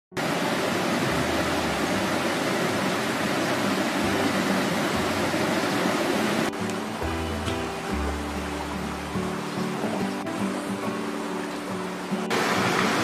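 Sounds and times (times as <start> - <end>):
river water rushing: 0.1 - 13.0
music: 1.0 - 13.0.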